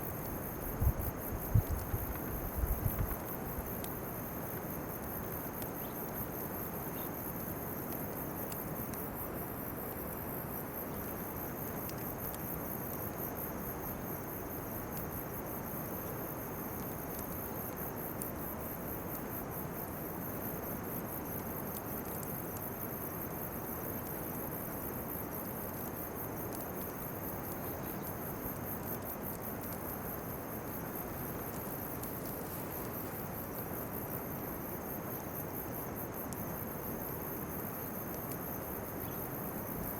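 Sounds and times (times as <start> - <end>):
crickets chirping trill: 0.0 - 39.9.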